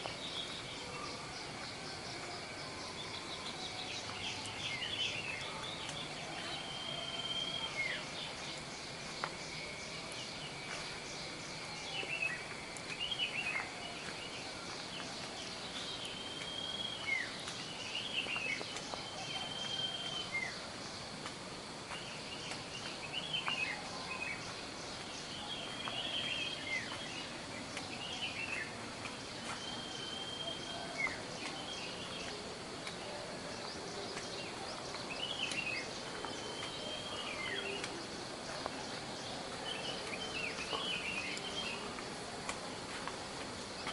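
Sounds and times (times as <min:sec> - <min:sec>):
birds chirping: 0:00.0 - 0:21.2, 0:21.9 - 0:43.9
high insect drone: 0:00.0 - 0:43.9.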